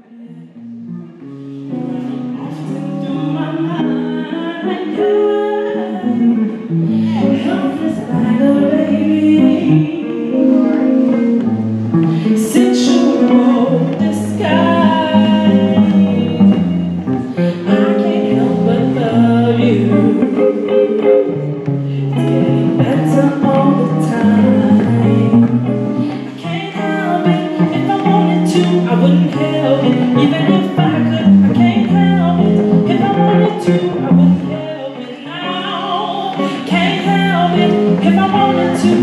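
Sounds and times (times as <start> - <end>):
guitar: 0.0 - 39.0
woman singing ballad: 1.6 - 39.0.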